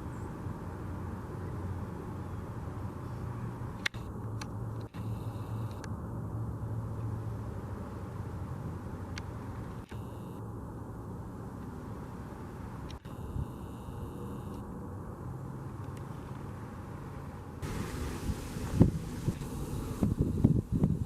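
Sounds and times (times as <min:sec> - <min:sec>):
engine rumble: 0:00.0 - 0:21.0.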